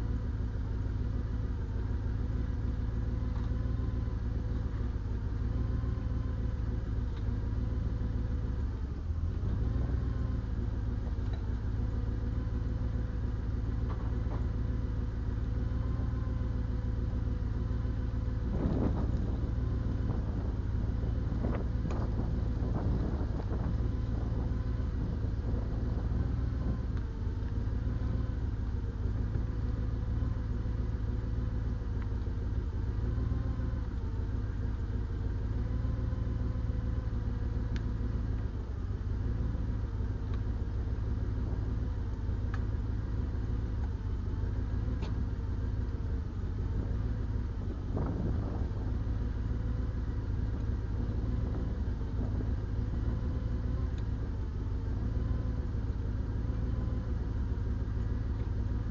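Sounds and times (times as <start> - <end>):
faint wavering whine: 0.0 - 58.9
heavy diesel engine rumbling: 0.0 - 58.9.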